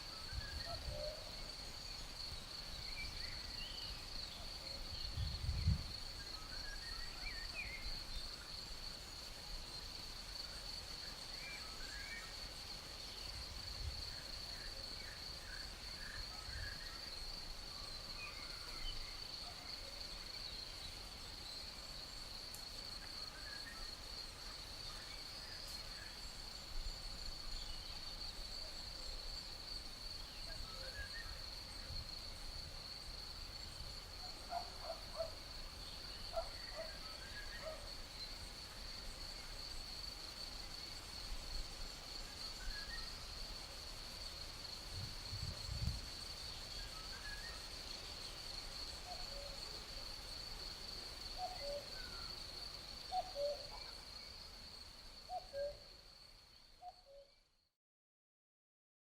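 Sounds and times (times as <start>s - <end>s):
crickets trilling: 0.0s - 57.3s.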